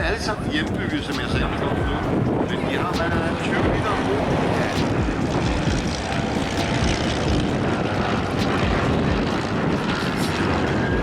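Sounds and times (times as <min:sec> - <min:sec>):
propeller aircraft flying by: 0:00.0 - 0:11.0.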